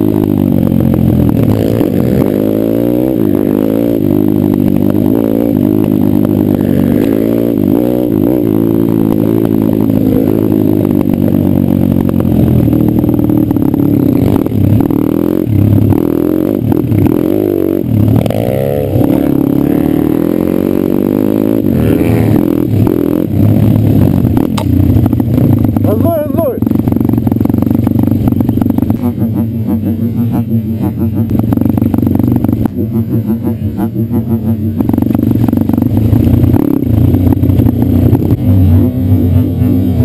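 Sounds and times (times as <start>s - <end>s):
pit bike engine revving: 0.0s - 40.0s.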